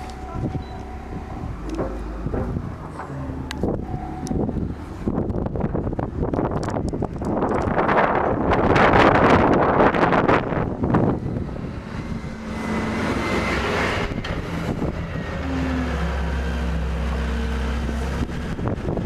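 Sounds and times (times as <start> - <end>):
vehicle engine hum: 0.0 - 19.0
wind gusting across microphone: 0.0 - 19.0.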